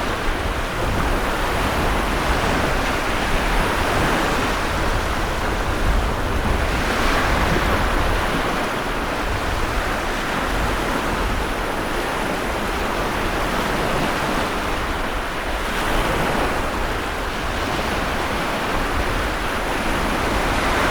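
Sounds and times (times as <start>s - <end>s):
sea waves breaking: 0.0s - 20.9s.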